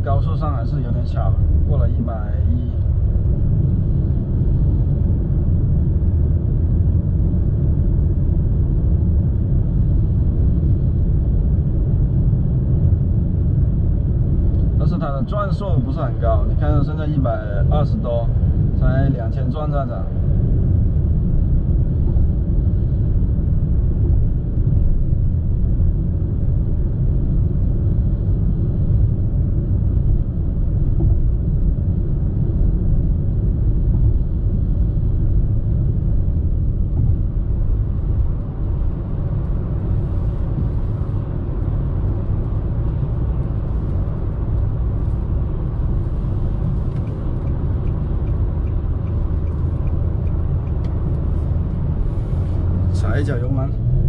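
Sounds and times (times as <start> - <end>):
car cabin road and wind noise: 0.0 - 54.0.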